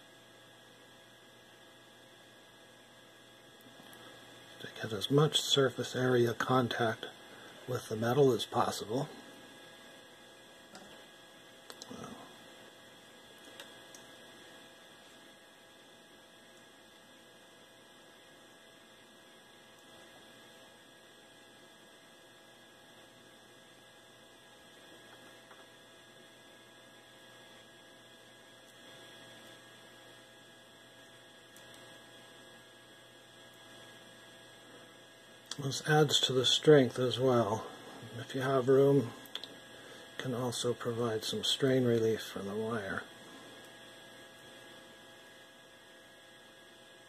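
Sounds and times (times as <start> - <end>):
faint electrical hum: 0.0 - 47.0.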